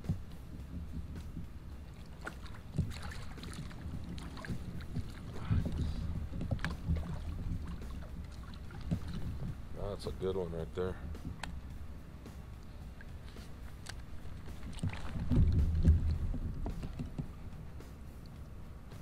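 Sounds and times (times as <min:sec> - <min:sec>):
water splashing: 0:00.0 - 0:18.6
wind rumble on microphone: 0:00.0 - 0:19.0.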